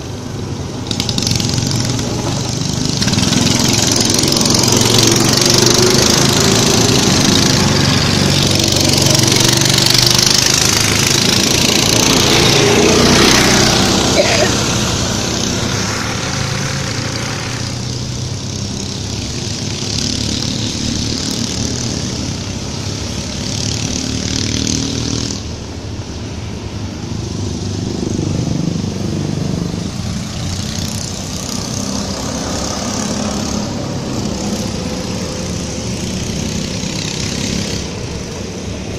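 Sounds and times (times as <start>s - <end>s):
go-kart engines: 0.0s - 38.9s.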